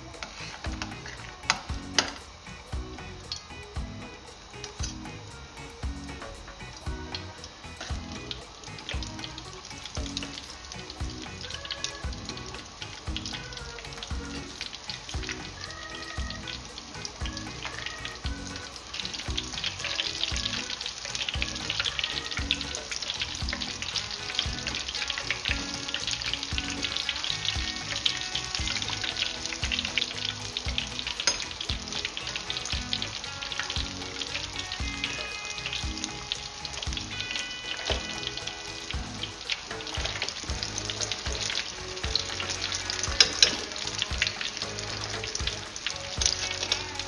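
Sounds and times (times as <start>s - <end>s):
background music with steady beat: 0.0s - 47.0s
hot oil crackling and sizzling: 0.0s - 47.0s.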